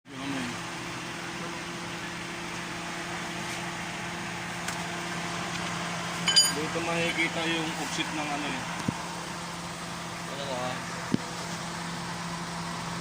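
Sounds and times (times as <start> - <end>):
steady mechanical hum: 0.1 - 13.0.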